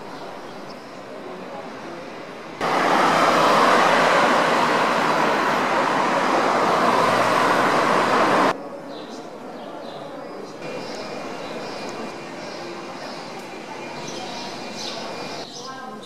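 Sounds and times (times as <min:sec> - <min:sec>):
road traffic passing close: 0:00.0 - 0:08.6, 0:10.5 - 0:15.5
quiet street background: 0:00.0 - 0:16.0.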